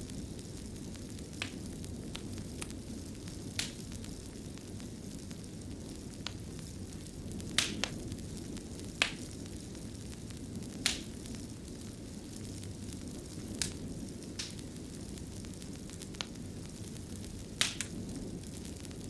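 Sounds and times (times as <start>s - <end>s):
low rumble of flame: 0.0s - 19.0s
wood fire crackles and pops: 0.0s - 19.0s.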